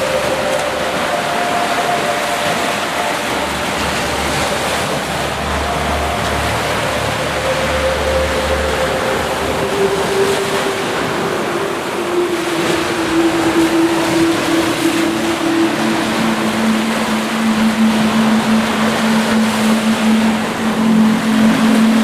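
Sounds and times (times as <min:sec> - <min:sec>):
rushing water: 0:00.0 - 0:22.0
sustained low tone: 0:00.0 - 0:22.0.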